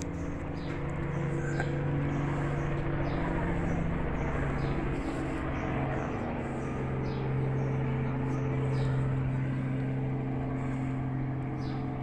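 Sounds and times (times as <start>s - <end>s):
low engine drone: 0.0s - 12.0s
small birds chirping: 0.0s - 12.0s.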